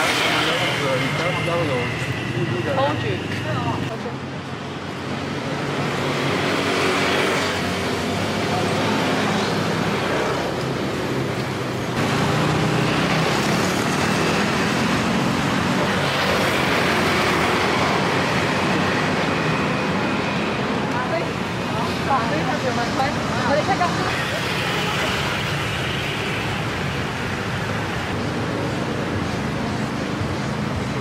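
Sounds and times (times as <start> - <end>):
loud rushing noise: 0.0 - 31.0.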